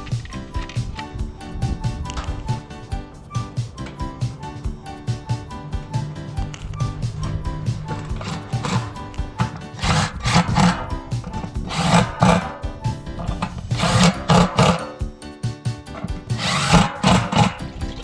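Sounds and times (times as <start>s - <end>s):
brush scrubbing: 0.0s - 15.0s, 16.0s - 18.0s
background music: 0.0s - 18.0s.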